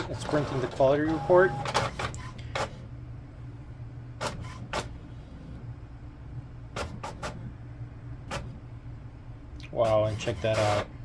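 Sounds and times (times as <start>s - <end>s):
printer motor hum: 0.0s - 11.0s.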